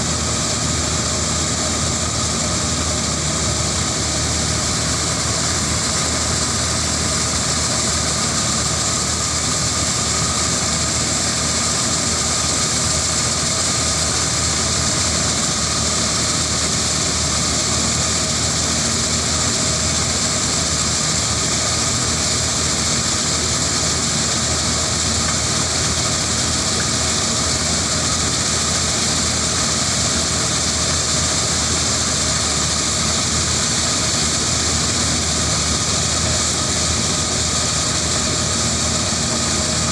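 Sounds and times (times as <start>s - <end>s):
harvester engine drone: 0.0s - 39.9s
machinery high hiss: 0.0s - 39.9s.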